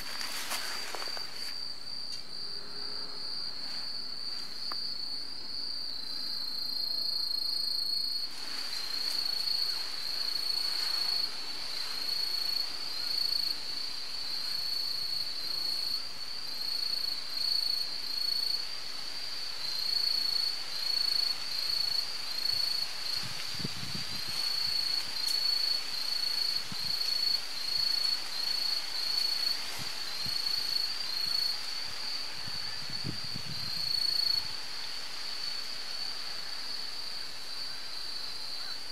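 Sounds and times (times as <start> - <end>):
insects chirring trill: 0.0 - 38.9.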